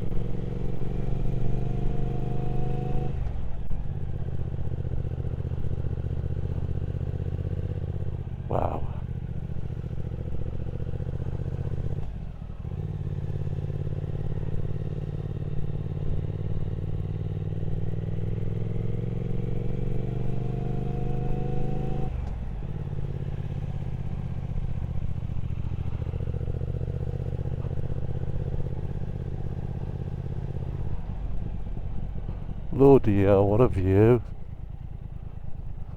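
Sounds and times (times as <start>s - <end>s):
motorcycle engine accelerating: 0.0s - 8.0s, 8.6s - 33.0s.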